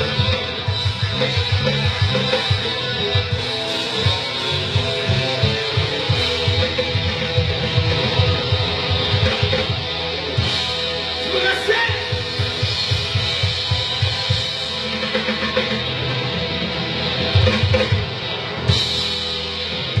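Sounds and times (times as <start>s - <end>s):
drum kit: 0.0s - 20.0s
loud electric guitars: 0.0s - 20.0s
rock band playing: 0.0s - 20.0s.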